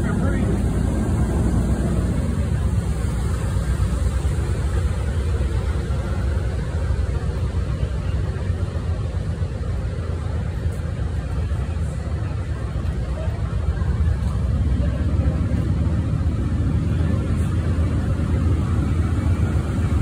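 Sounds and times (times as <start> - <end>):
standing train rumble: 0.0 - 20.0.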